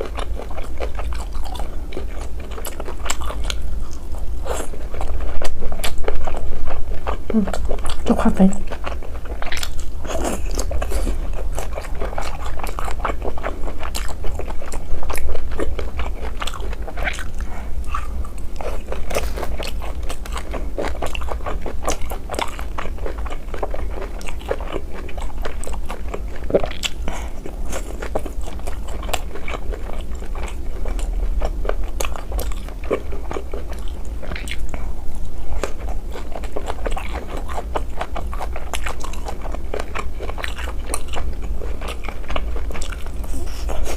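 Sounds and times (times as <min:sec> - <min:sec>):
low steady hum: 0:00.0 - 0:43.9
person chewing meat: 0:00.0 - 0:43.9.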